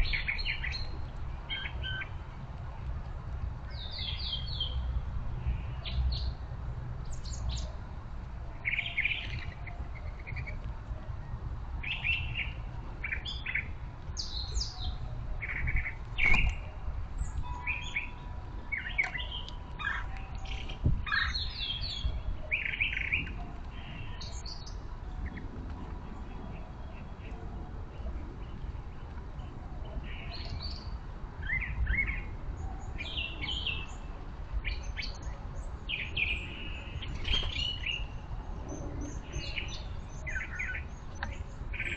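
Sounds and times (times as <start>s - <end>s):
small birds chirping: 0.0s - 2.9s, 3.6s - 6.4s, 8.6s - 41.9s.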